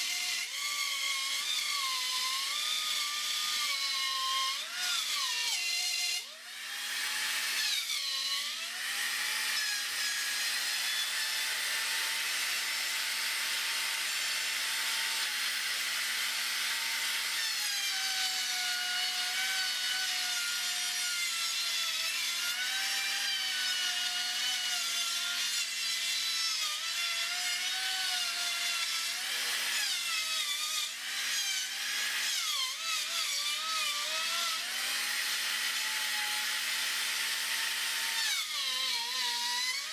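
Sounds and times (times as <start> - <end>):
router cutting through wood: 0.0 - 39.9.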